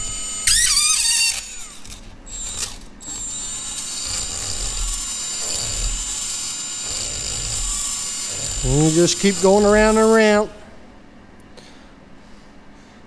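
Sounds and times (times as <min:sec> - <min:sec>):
rotary tool high whine: 0:00.0 - 0:10.8.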